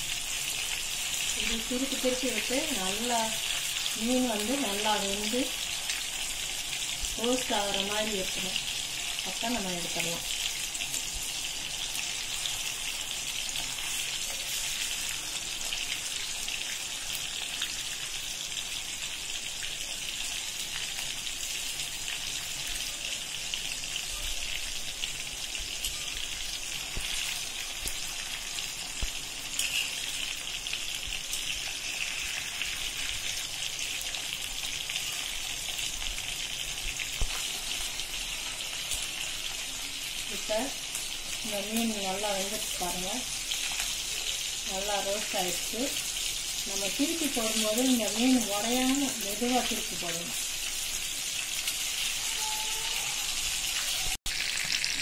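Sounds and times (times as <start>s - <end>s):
fish frying in oil: 0.0s - 55.0s.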